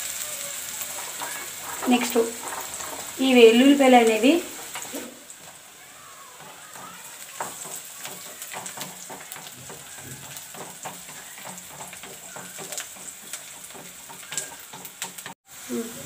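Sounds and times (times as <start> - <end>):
onions sizzling in oil: 0.0 - 16.0
wooden spatula stirring: 0.8 - 15.4.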